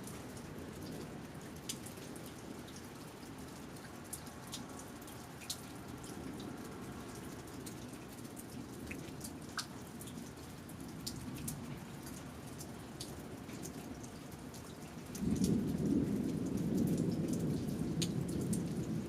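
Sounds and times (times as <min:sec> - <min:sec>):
steady rain falling: 0:00.0 - 0:19.0
drops dripping and tapping: 0:01.6 - 0:18.8.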